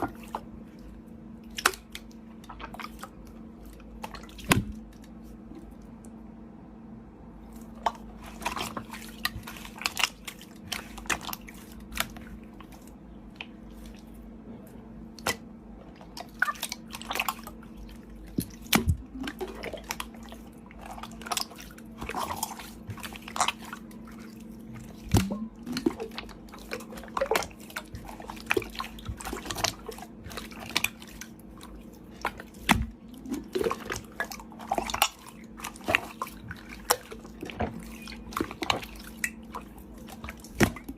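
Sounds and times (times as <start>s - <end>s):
slime squishing: 0.0s - 6.2s, 7.4s - 40.9s
faint steady hum: 0.0s - 40.9s.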